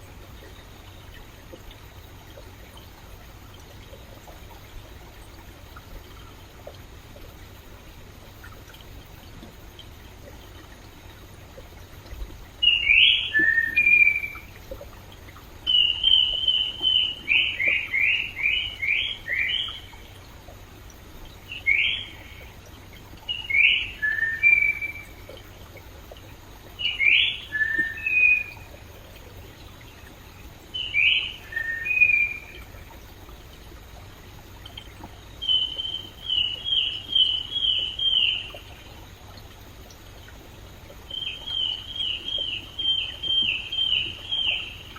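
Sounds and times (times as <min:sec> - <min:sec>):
songbird singing: 0:00.0 - 0:33.7, 0:34.7 - 0:44.9
stream flowing: 0:00.0 - 0:44.9.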